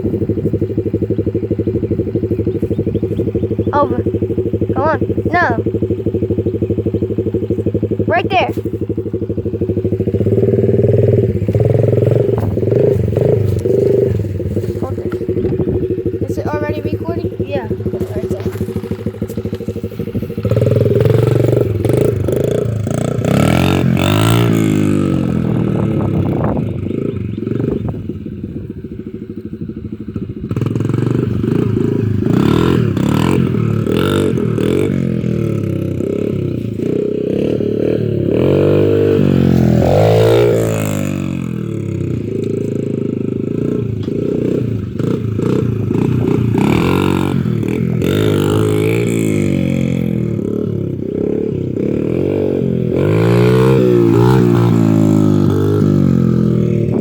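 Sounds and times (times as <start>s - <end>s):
dirt bike engine revving: 0.0s - 29.0s, 29.6s - 57.0s.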